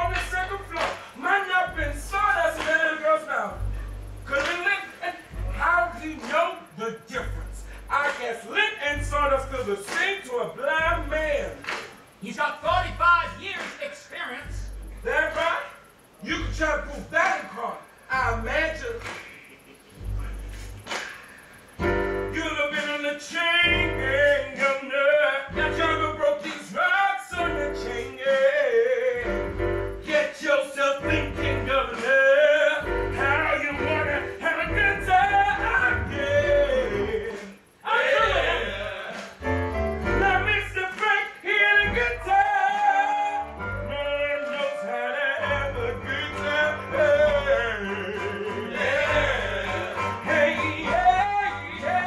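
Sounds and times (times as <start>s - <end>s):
instrumental music with bass beat: 0.0s - 2.9s, 3.5s - 8.1s, 8.9s - 9.9s, 10.8s - 13.6s, 14.4s - 17.2s, 17.9s - 22.7s, 23.7s - 24.6s, 25.5s - 26.4s, 27.4s - 28.1s, 29.2s - 30.2s, 31.0s - 32.2s, 32.8s - 40.9s, 41.8s - 52.0s
man singing: 0.0s - 19.7s, 22.3s - 39.4s, 40.1s - 52.0s.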